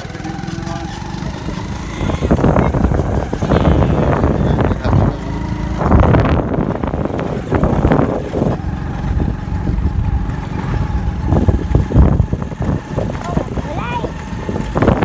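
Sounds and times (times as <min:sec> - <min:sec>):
vehicle engine running: 0:00.0 - 0:15.0
wind rumble on microphone: 0:01.4 - 0:15.0.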